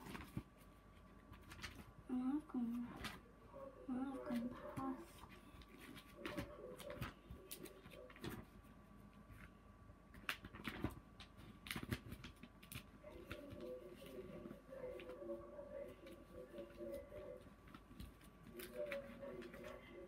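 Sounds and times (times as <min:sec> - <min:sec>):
paper rustling: 0:00.0 - 0:02.0, 0:04.1 - 0:20.0.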